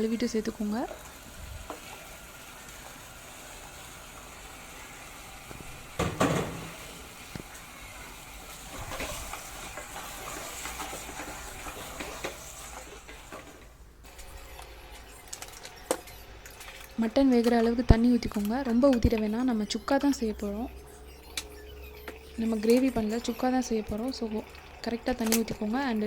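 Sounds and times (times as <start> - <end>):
frying hiss in a pot: 0.0 - 26.0.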